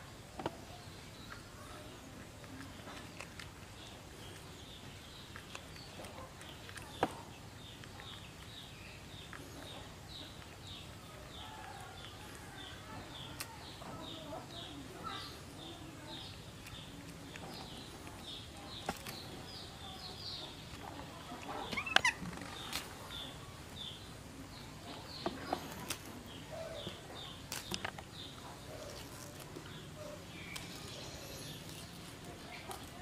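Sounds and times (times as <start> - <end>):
leaves rustling: 0.0 - 33.0.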